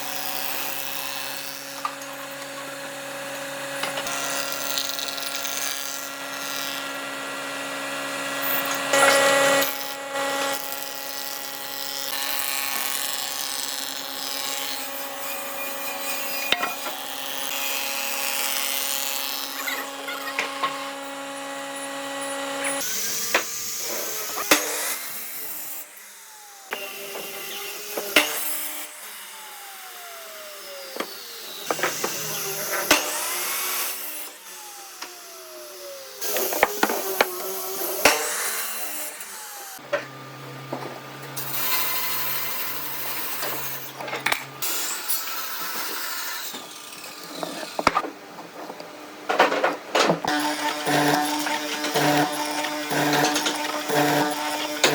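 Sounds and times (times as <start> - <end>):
woodworking power tools running: 0.0 - 54.9.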